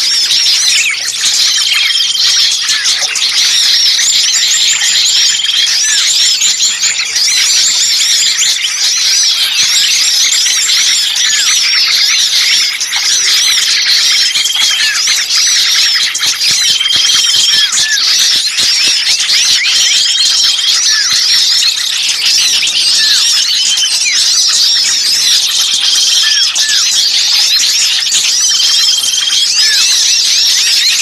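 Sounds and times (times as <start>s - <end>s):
bird trill: 0.0s - 31.0s
songbirds chirping in commotion: 0.0s - 31.0s.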